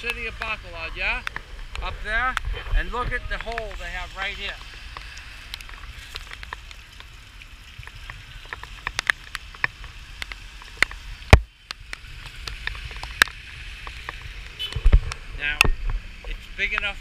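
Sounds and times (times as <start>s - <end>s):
raindrops ticking: 0.0s - 17.0s.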